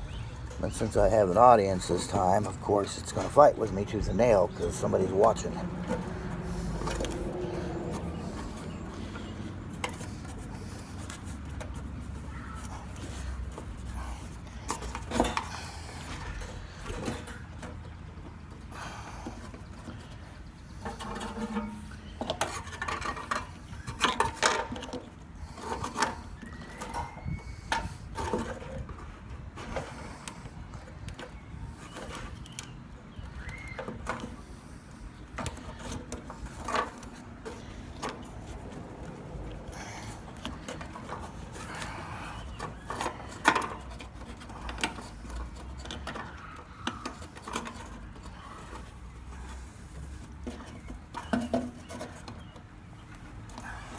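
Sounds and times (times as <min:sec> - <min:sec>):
knocks clicks and scraping: 0:00.0 - 0:53.9.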